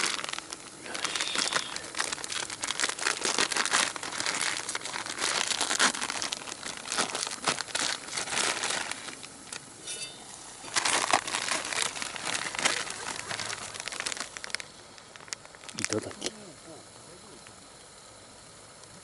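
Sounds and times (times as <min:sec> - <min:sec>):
plastic packaging crinkling: 0:00.0 - 0:09.6, 0:10.6 - 0:16.3.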